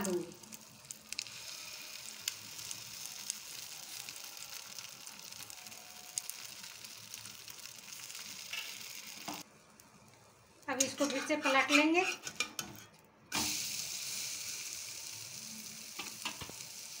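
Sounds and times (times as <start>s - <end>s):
bread frying in oil: 0.0s - 17.0s.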